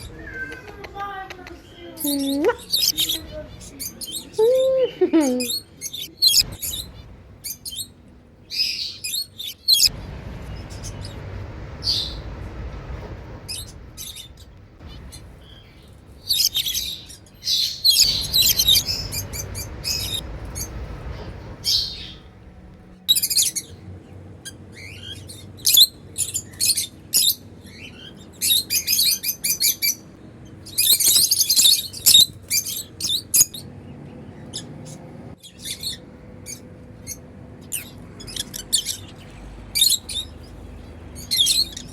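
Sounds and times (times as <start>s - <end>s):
lovebirds chirping: 0.0s - 41.9s.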